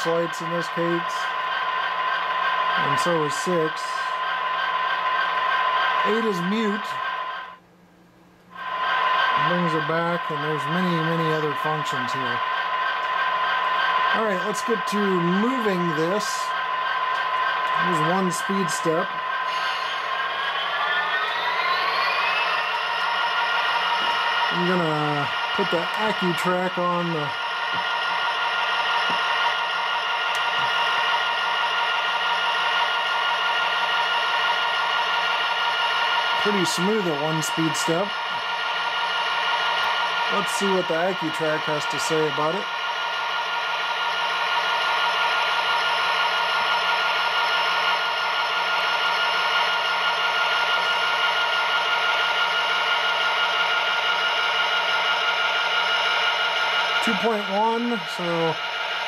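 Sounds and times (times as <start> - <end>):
diesel engine drone from small speaker: 0.0 - 7.5, 8.5 - 59.0.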